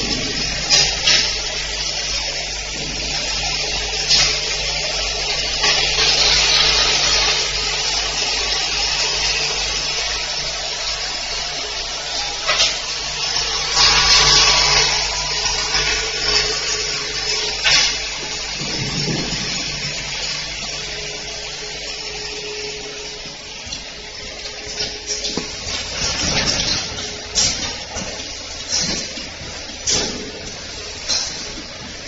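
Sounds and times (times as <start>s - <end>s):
machine low hum: 0.0s - 32.0s.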